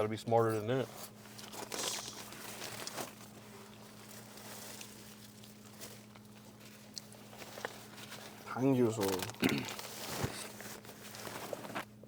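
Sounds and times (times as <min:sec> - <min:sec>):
low steady hum: 0:00.0 - 0:12.0
faint small clicks and rustles: 0:01.0 - 0:11.9.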